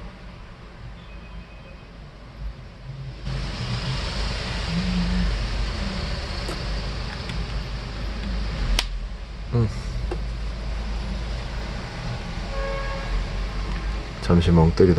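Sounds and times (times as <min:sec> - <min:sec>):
computer cooling fans: 0:00.0 - 0:14.9.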